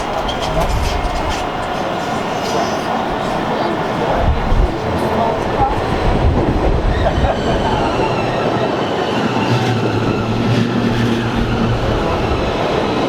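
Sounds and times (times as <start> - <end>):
train rolling on track: 0.0 - 13.0.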